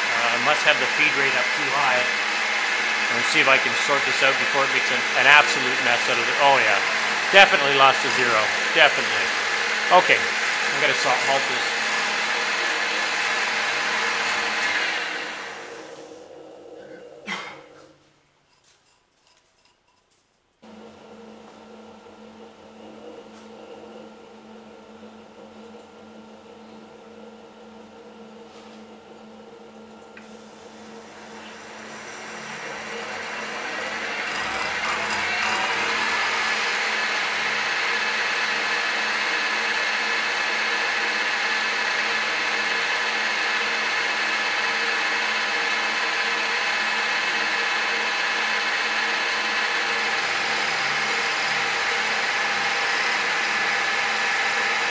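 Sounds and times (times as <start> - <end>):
milling machine hum: 0.0 - 17.3, 20.6 - 54.9
milling machine whine: 0.0 - 17.3, 20.6 - 54.9.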